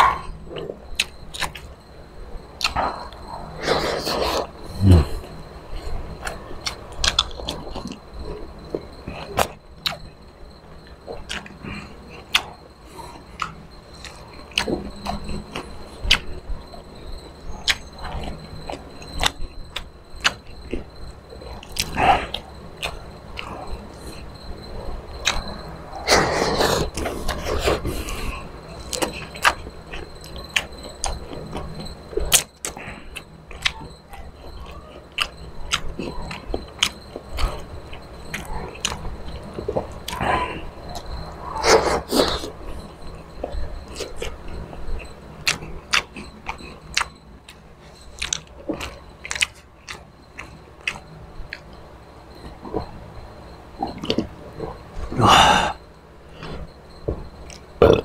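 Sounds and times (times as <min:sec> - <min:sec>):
man chewing with mouth smacks: 0:00.0 - 0:01.7, 0:02.6 - 0:08.0, 0:08.7 - 0:10.2, 0:10.8 - 0:16.8, 0:17.4 - 0:53.1, 0:53.8 - 0:58.0.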